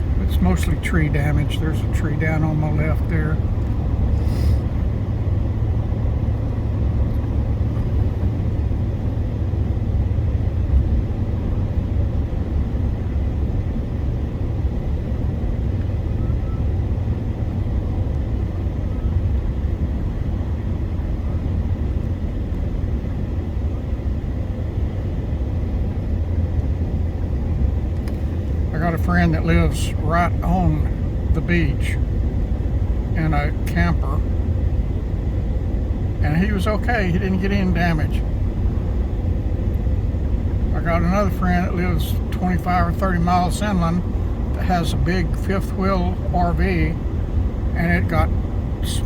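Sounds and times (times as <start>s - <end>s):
truck road and engine rumble: 0.0s - 49.0s.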